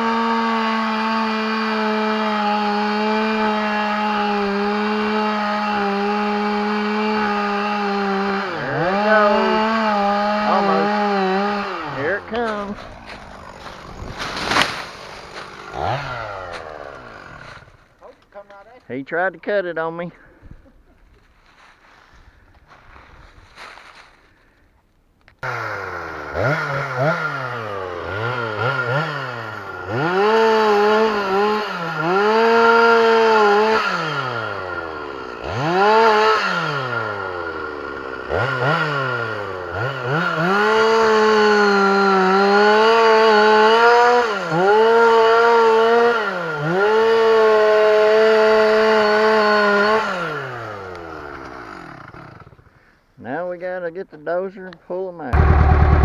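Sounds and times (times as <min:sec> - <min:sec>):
chainsaw revving: 0:00.0 - 0:18.5, 0:25.4 - 0:52.9, 0:55.3 - 0:56.0.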